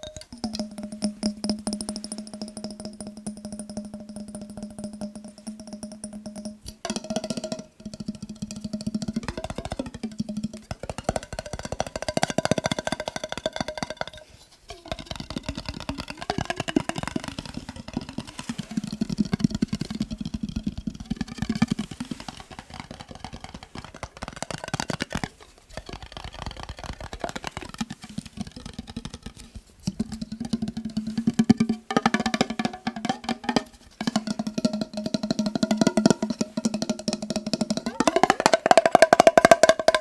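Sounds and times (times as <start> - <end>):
fast tapping on glass jar: 0.0 - 40.0.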